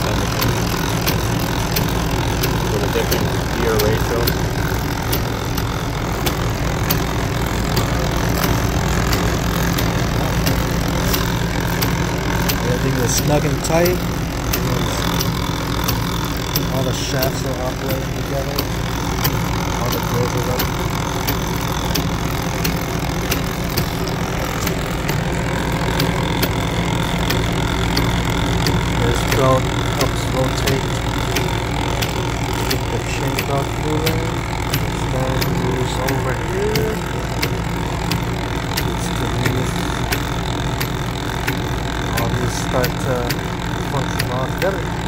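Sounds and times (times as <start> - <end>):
machine mechanical hum: 0.0 - 45.0
light mechanical clicks: 0.1 - 45.0.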